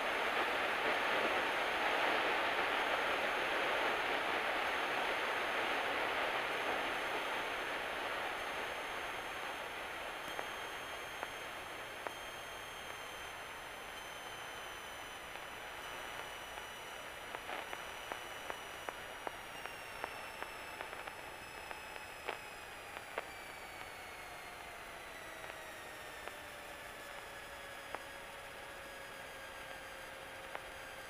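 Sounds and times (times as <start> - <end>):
faint engine whine: 0.0 - 31.0.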